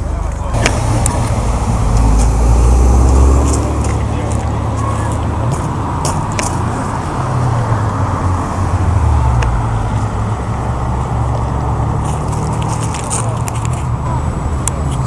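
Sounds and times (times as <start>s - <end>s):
car engine pulling away: 0.4s - 15.0s.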